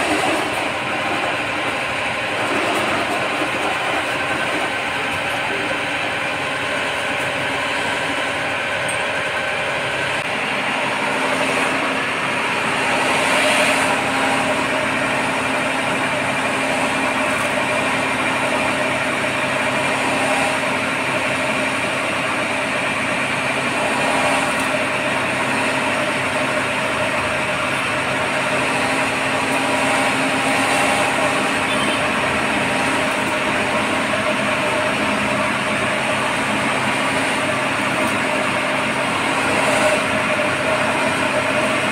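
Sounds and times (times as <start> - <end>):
wet grinder motor grinding: 0.0 - 8.1, 11.0 - 41.9.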